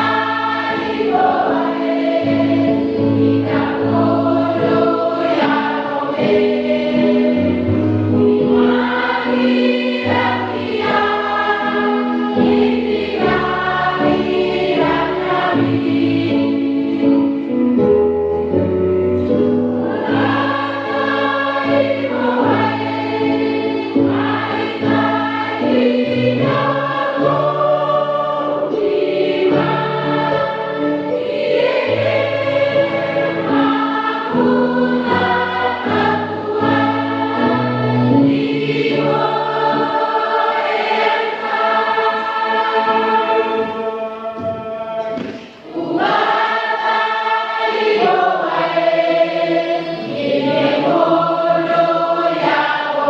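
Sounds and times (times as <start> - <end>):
choir singing a hymn: 0.0 - 53.0.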